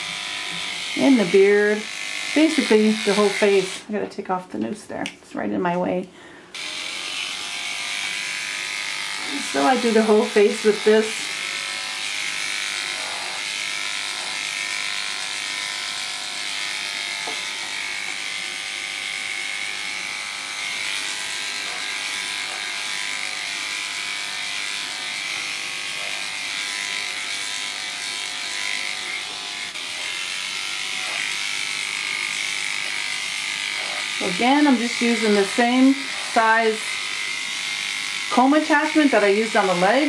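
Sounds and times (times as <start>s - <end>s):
electric clipper motor hum: 0.0s - 3.9s, 6.5s - 40.0s.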